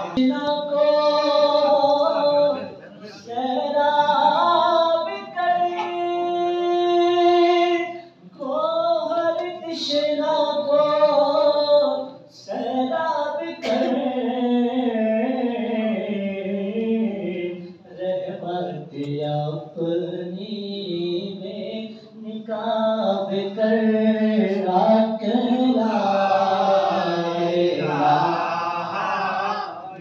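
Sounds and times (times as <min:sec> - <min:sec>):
person singing unaccompanied: 0:00.0 - 0:28.5.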